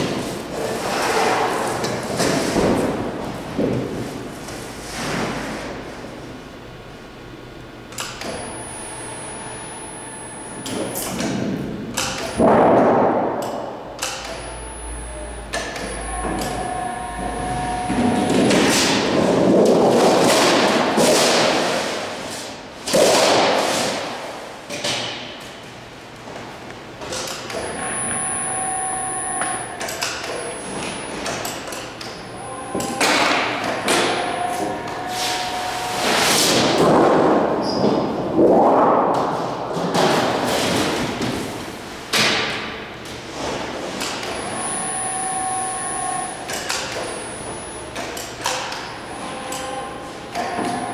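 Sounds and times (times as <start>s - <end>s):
folding machine hum: 0.0s - 38.4s, 39.5s - 50.9s.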